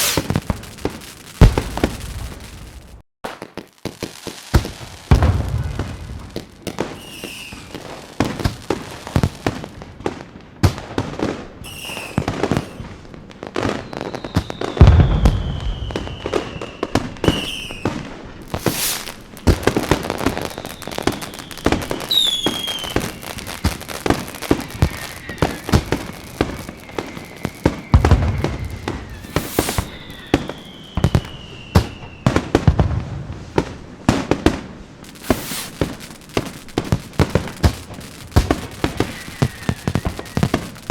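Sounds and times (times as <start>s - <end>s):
deep firework booms: 0.0s - 3.0s, 4.5s - 11.4s, 13.6s - 40.9s
whistling firework shells: 0.0s - 3.4s, 4.2s - 9.9s, 10.8s - 40.9s
firework cracks and pops: 0.0s - 40.9s.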